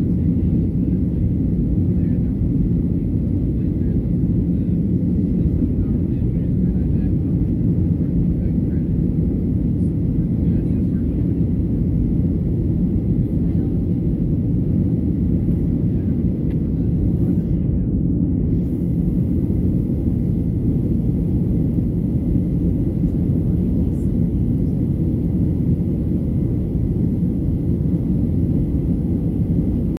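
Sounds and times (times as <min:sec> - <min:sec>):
airplane cabin engine noise: 0:00.0 - 0:29.9.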